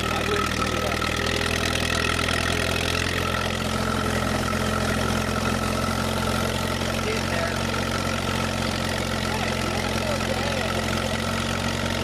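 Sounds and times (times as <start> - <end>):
truck engine running steadily: 0.0 - 12.0.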